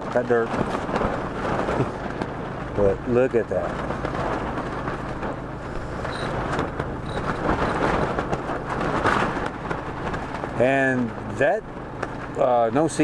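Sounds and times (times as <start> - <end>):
low hum: 0.0 - 12.5
wind against fabric and microphone: 0.0 - 13.0.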